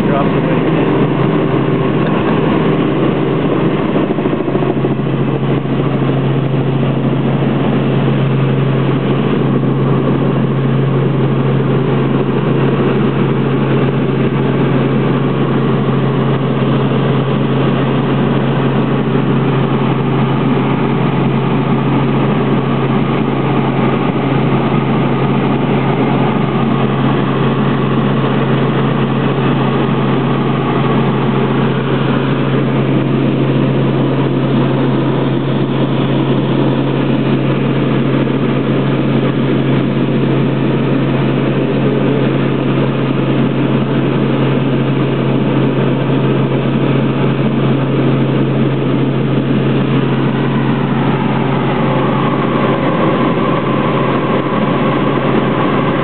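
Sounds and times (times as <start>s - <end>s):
helicopter cabin drone: 0.0s - 56.0s.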